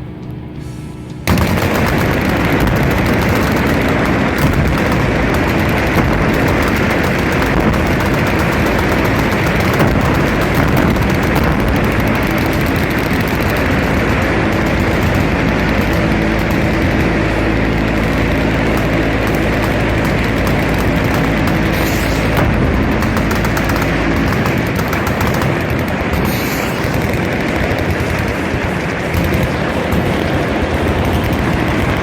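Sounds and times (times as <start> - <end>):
machine guns firing: 1.3 - 32.0.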